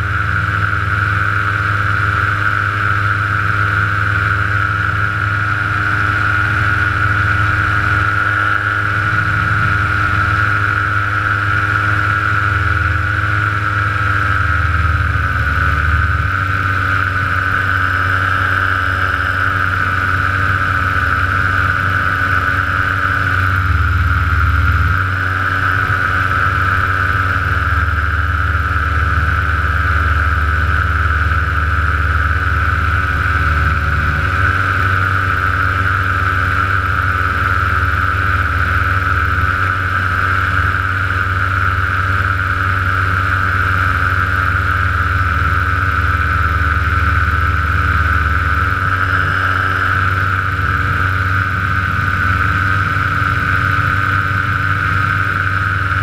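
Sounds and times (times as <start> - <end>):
paramotor engine droning: 0.0 - 56.0.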